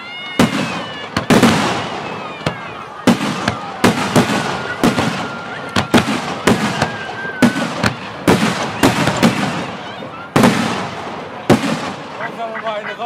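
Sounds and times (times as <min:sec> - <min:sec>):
rolling echo: 0:00.0 - 0:13.0.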